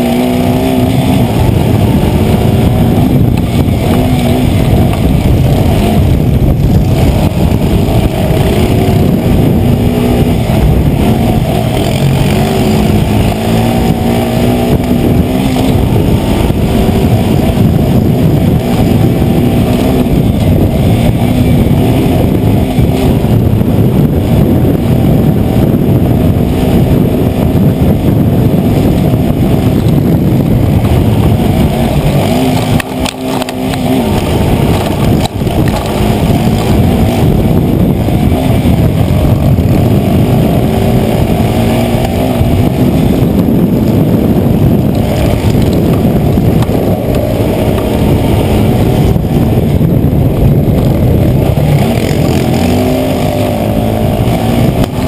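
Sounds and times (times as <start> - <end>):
quad engine running hard: 0.0 - 55.0.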